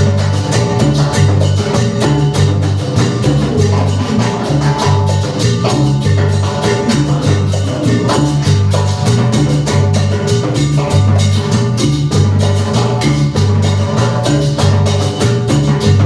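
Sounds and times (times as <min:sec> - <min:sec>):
electric bass line: 0:00.0 - 0:16.0
live band playing latin dance music: 0:00.0 - 0:16.0
steady percussion beat: 0:00.0 - 0:16.0.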